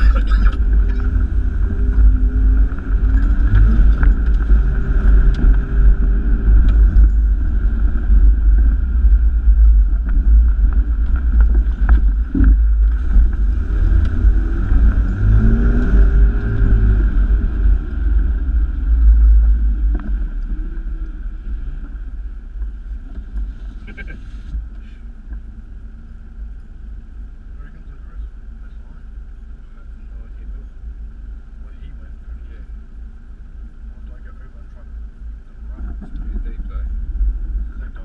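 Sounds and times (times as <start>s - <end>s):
car engine revving: 0.0s - 38.0s
deep low rumble: 0.0s - 38.0s.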